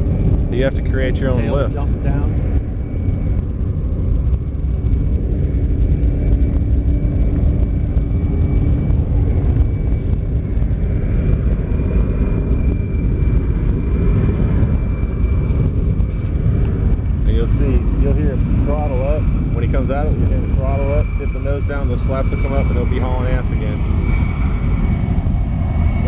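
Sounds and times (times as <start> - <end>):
jet engines rumbling low pass: 0.0 - 26.0.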